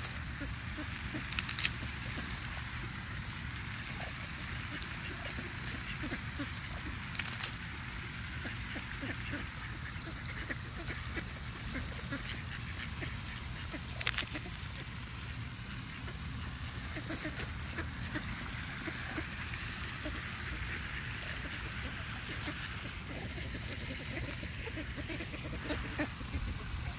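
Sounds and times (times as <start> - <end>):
ducks quacking: 0.0 - 26.9.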